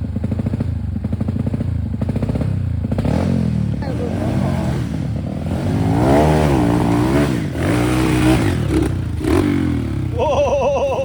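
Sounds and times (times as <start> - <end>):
dirt bike engine revving: 1.4 - 11.0.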